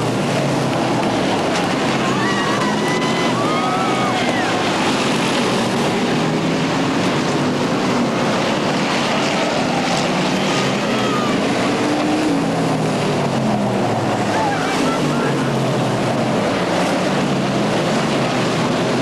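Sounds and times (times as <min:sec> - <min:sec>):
racing car engines droning: 0:00.0 - 0:19.0.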